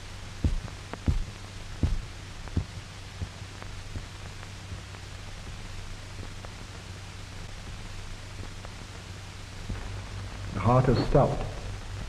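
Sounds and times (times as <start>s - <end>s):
film soundtrack hiss and hum: 0.0s - 12.0s.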